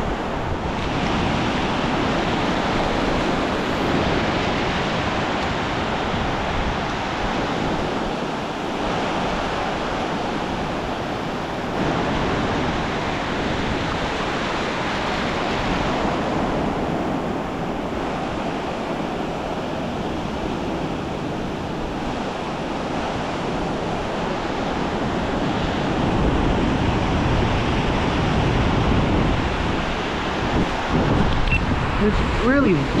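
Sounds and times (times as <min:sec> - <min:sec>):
ocean surf washing onto beach: 0:00.0 - 0:33.0
wind buffeting microphone: 0:00.0 - 0:33.0.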